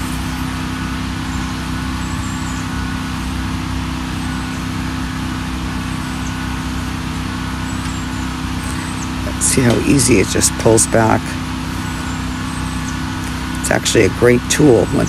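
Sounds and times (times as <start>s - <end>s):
band sawmill humming: 0.0s - 15.0s.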